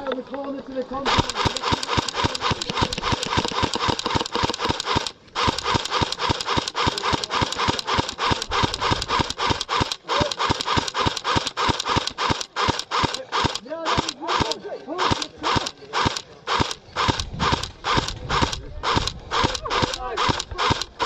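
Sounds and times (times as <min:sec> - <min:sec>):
airsoft rifle firing full auto: 0:01.0 - 0:21.0.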